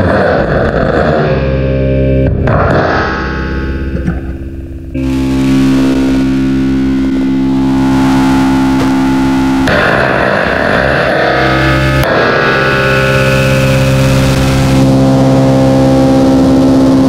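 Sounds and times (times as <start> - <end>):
distorted metal spring drone: 0.0 - 17.0.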